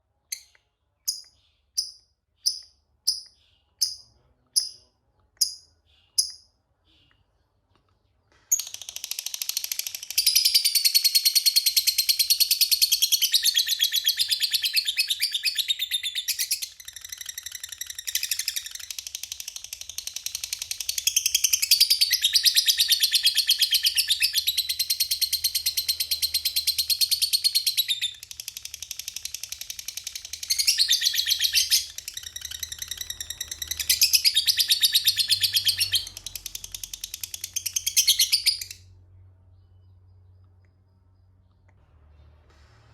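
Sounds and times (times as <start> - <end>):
lovebird high chirps: 0.3 - 4.8, 5.4 - 6.5, 8.5 - 38.9.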